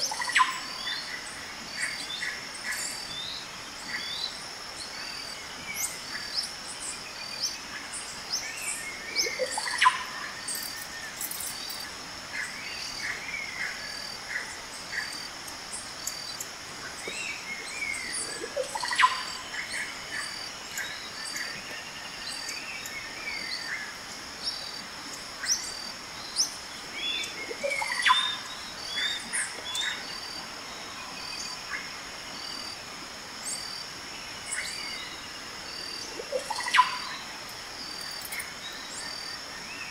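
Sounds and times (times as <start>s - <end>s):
birds calling and singing: 0.0s - 32.8s, 33.4s - 39.9s.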